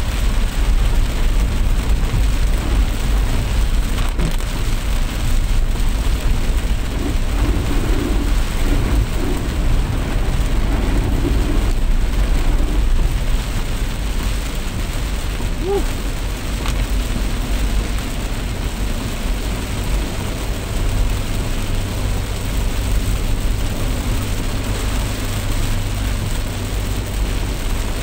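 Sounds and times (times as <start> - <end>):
deep rumble: 0.0 - 28.0
heavy rain pouring: 0.0 - 28.0.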